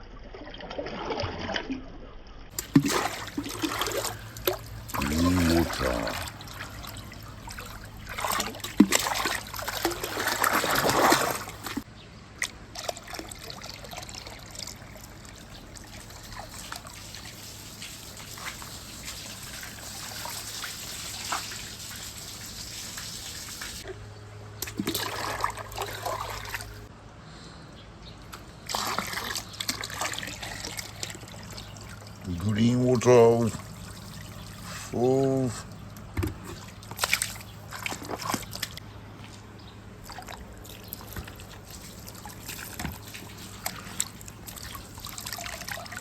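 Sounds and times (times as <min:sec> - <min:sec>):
water trickling: 0:02.5 - 0:24.0, 0:28.6 - 0:46.0.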